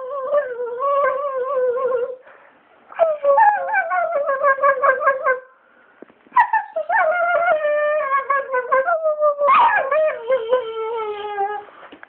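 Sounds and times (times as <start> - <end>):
dog howling and whining: 0.0 - 2.2, 2.9 - 5.5, 6.4 - 11.8.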